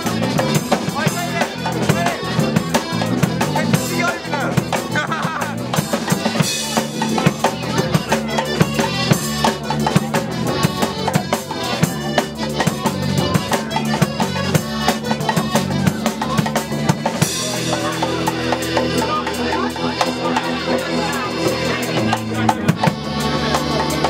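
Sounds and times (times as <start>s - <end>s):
bass guitar: 0.0s - 24.0s
drum kit beat: 0.0s - 24.0s
tuba: 0.0s - 24.0s.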